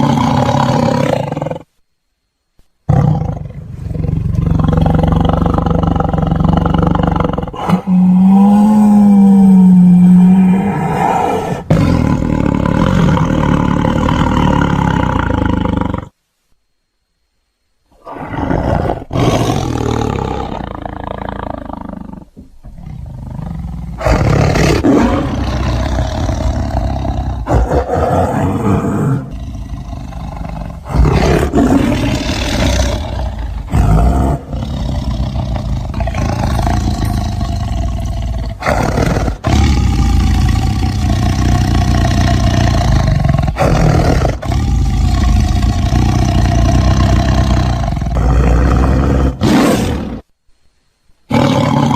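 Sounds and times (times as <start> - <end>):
tigers roaring: 0.0 - 1.7, 2.9 - 16.2, 18.0 - 50.3, 51.3 - 51.9.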